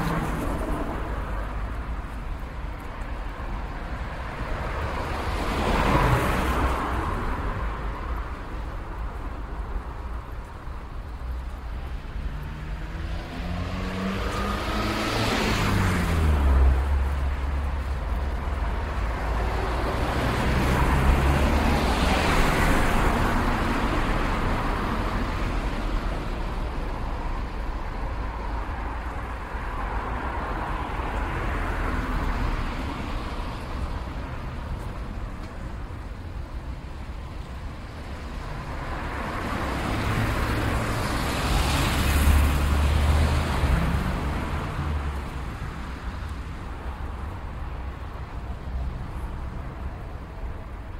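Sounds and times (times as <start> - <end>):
cars passing: 0.0 - 50.9
steady low traffic rumble: 0.0 - 50.9.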